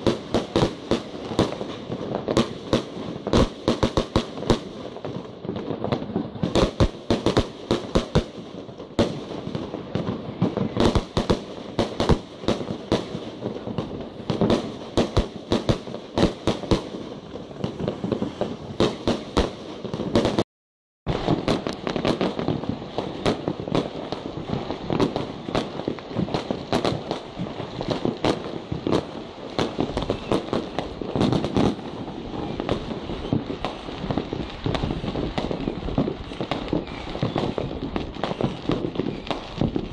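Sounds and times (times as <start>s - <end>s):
fireworks bangs: 0.0s - 20.5s, 21.1s - 39.9s
fireworks crackle: 0.0s - 20.5s, 21.1s - 39.9s.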